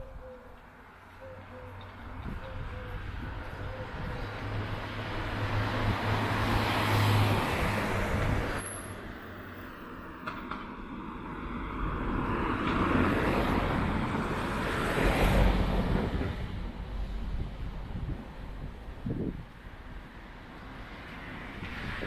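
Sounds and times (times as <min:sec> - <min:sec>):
cars driving past: 0:00.6 - 0:22.0.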